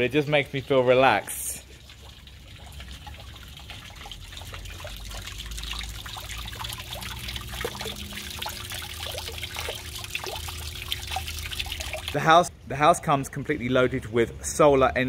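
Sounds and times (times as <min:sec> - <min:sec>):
water trickling into stone basin: 0:00.0 - 0:12.5.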